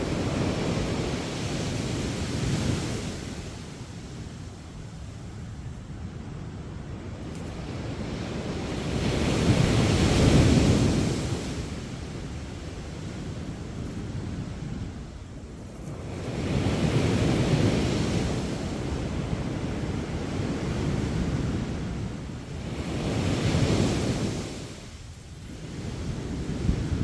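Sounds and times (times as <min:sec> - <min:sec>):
sea waves breaking on beach: 0:00.0 - 0:04.2, 0:07.4 - 0:14.7, 0:15.8 - 0:27.0.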